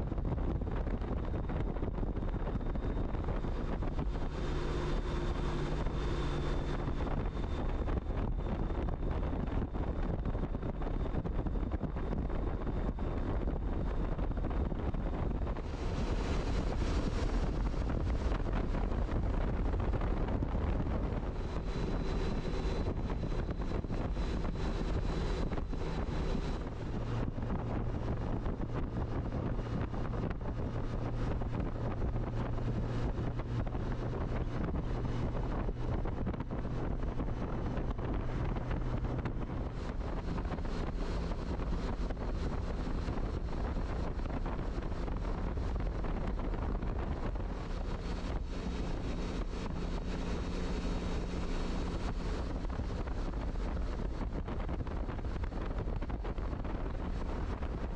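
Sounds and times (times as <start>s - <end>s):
motorcycle engine hum: 0.0s - 57.9s
wind rushing over microphone: 0.0s - 57.9s.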